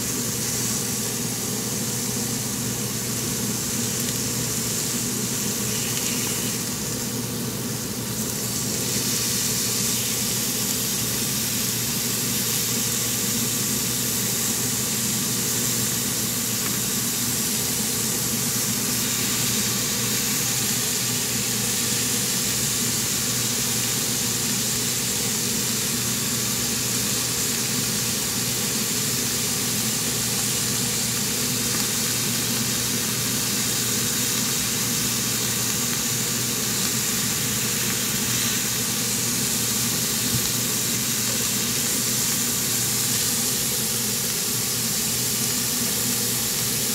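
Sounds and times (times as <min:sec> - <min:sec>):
food sizzling in a frying pan: 0:00.0 - 0:46.9.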